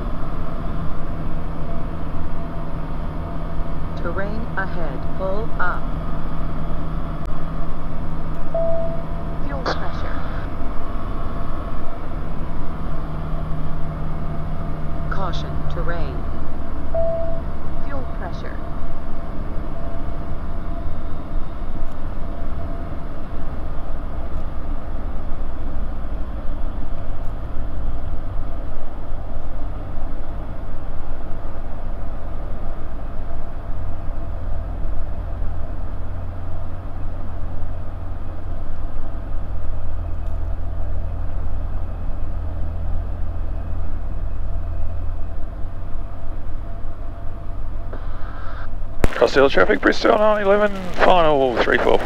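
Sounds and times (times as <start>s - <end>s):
aircraft engine and propeller droning: 0.0s - 52.0s.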